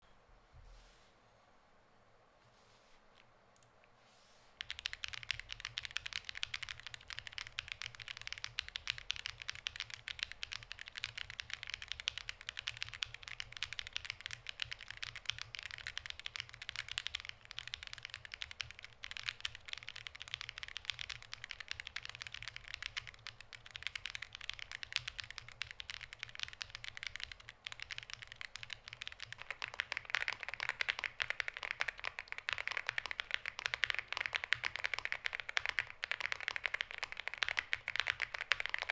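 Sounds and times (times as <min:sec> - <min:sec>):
mechanical keyboard typing: 0:04.6 - 0:38.9.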